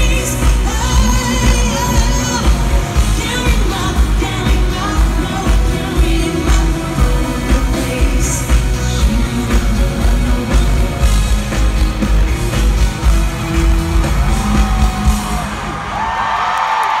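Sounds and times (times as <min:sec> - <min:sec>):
live pop music: 0:00.0 - 0:17.0.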